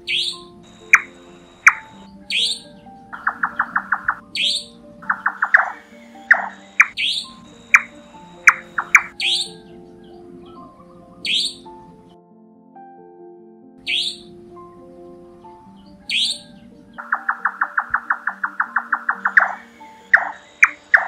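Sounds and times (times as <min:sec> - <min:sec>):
nightjar calls: 0:00.0 - 0:11.9, 0:13.8 - 0:14.3, 0:16.0 - 0:21.0
background music: 0:00.0 - 0:21.0.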